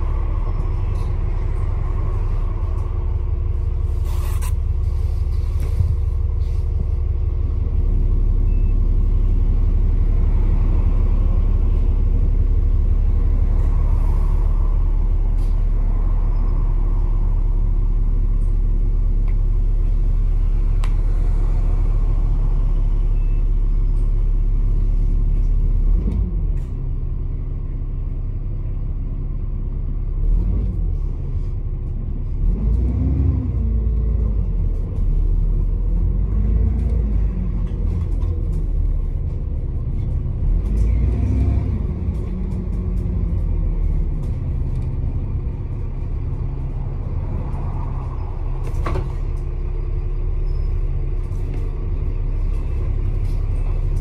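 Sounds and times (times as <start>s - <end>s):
bus engine idling drone: 0.0s - 32.5s, 33.5s - 54.0s.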